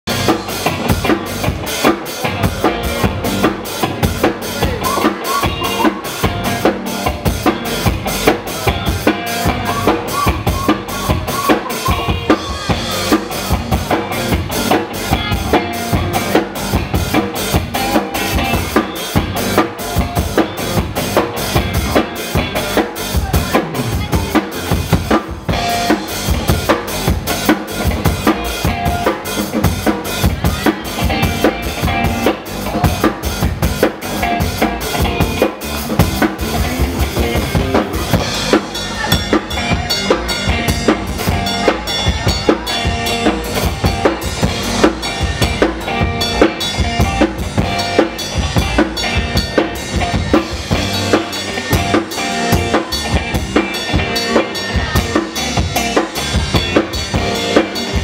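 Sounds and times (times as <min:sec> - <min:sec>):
drum kit beat: 0:00.1 - 0:58.0.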